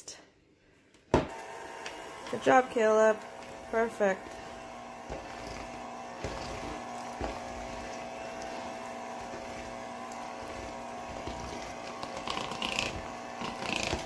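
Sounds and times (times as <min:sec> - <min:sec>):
electric hand mixer running: 0:01.3 - 0:14.0.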